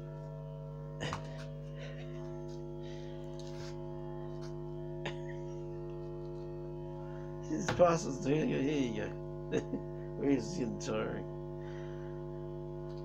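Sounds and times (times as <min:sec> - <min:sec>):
drone music: 0:00.0 - 0:13.0.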